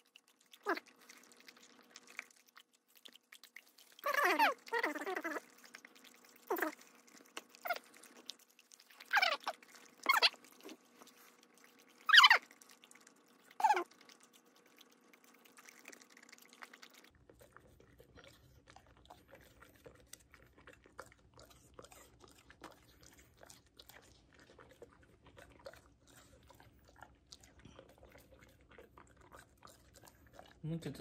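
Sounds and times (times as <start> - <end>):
dog chewing apple crunches: 0.0 - 31.0.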